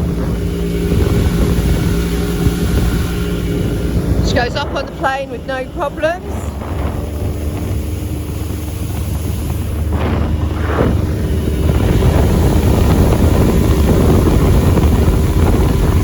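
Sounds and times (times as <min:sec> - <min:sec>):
speedboat engine running: 0:00.0 - 0:16.0
wind buffeting microphone: 0:00.0 - 0:16.0.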